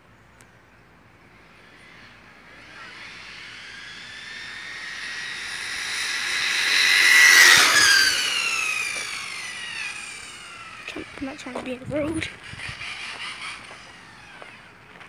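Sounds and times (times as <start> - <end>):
electric motor whine passing: 0.8 - 15.0.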